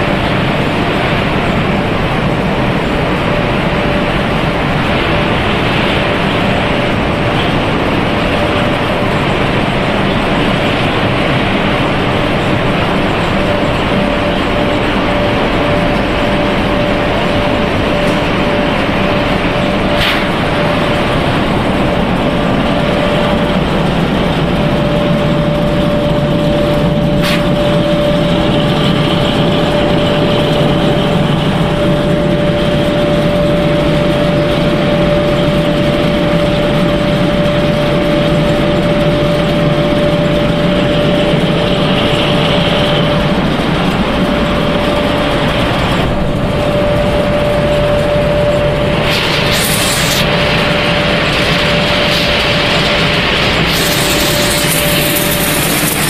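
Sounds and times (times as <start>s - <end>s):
machinery motors and fans humming: 0.0s - 56.0s.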